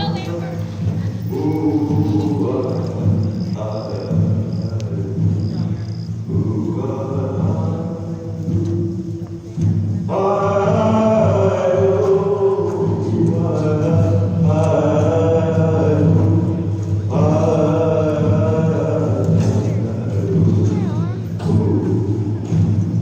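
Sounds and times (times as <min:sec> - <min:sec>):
choir-like chanted vocals: 0:00.0 - 0:23.0
low drone: 0:00.0 - 0:23.0.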